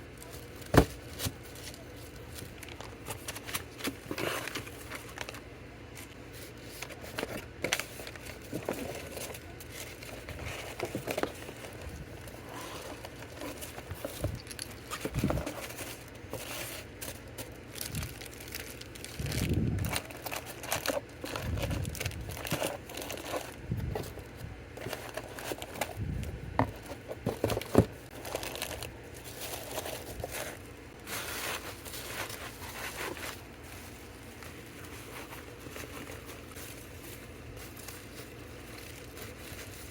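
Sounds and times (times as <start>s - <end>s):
packaging crinkling and rustling: 0.1s - 39.9s.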